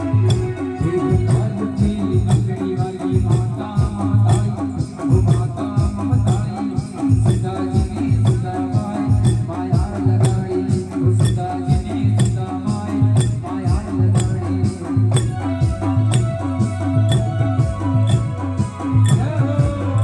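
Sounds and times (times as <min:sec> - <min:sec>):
dance music with driving beat: 0:00.0 - 0:20.0
person singing: 0:00.0 - 0:20.0
shaker-like percussion: 0:00.0 - 0:20.0.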